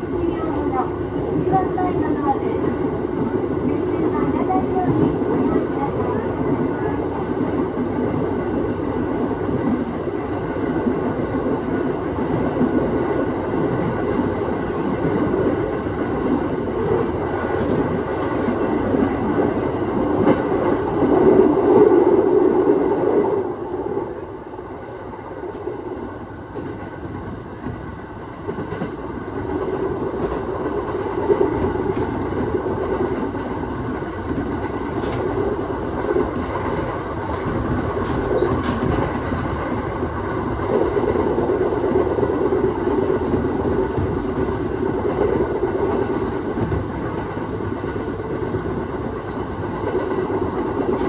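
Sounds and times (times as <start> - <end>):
clickety-clack of rails: 0.0 - 51.0
train wheels on rails: 0.0 - 51.0.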